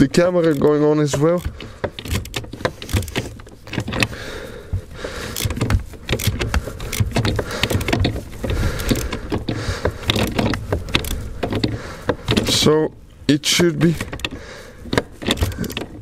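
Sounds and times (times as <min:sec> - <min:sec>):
hand tool clicks and knocks: 0:00.0 - 0:12.7, 0:13.8 - 0:16.0
rustling: 0:00.0 - 0:16.0.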